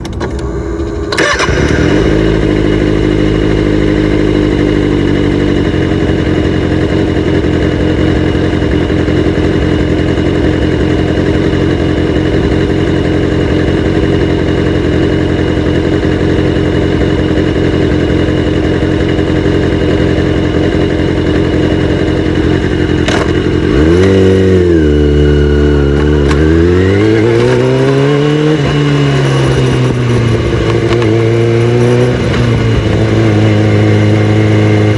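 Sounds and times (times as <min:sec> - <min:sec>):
engine throttle blips: 0:00.0 - 0:34.9
motorcycle engine idling: 0:00.0 - 0:34.9.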